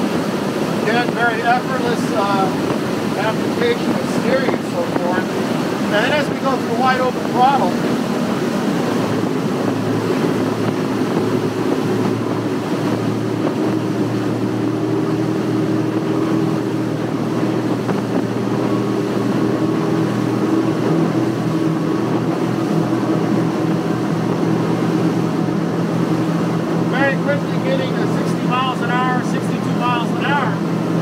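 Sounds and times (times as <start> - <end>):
outboard engines droning: 0.0 - 31.0
water and wind rushing: 0.0 - 31.0.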